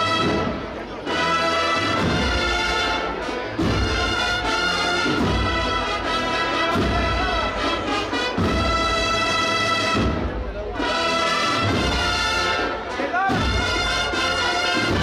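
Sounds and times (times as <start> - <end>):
brass chords: 0.0 - 15.0.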